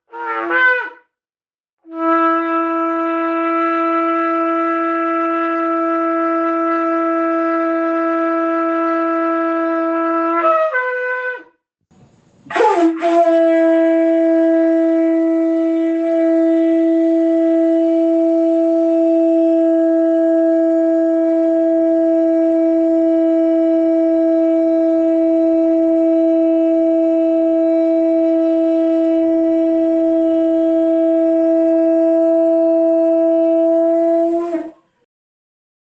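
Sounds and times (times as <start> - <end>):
shofar blowing a held note: 0.0 - 1.1, 1.8 - 11.6, 12.5 - 34.8.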